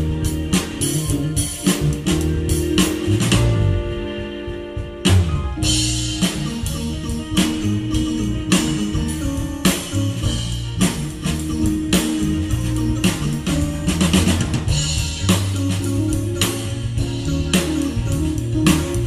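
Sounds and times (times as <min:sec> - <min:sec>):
live band playing a groove: 0:00.0 - 0:19.0.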